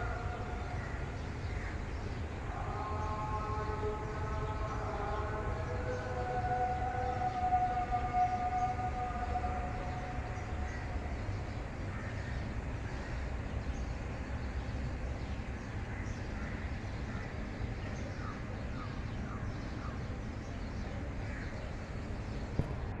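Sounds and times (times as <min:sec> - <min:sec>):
birds calling: 0:00.0 - 0:23.0
city hum: 0:00.0 - 0:23.0.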